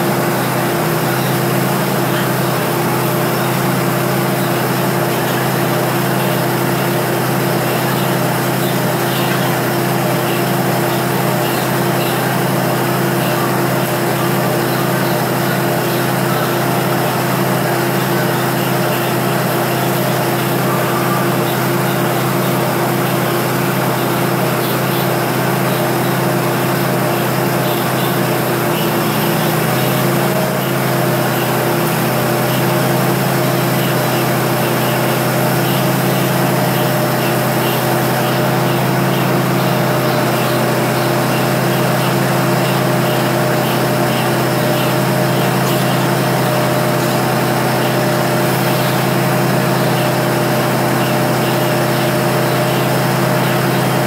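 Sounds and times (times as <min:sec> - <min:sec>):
diesel train engine idling: 0:00.0 - 0:54.0.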